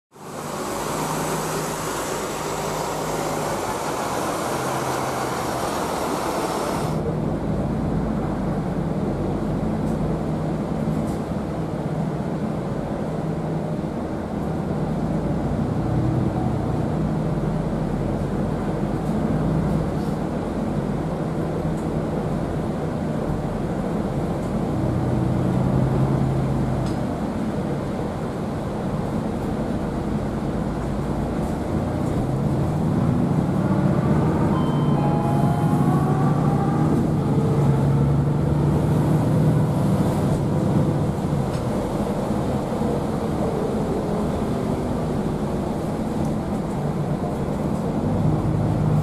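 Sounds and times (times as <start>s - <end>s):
bus diesel engine accelerating: 0.1s - 49.0s.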